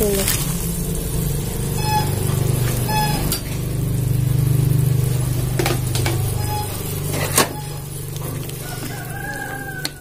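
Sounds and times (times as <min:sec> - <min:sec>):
low motor hum: 0:00.0 - 0:10.0.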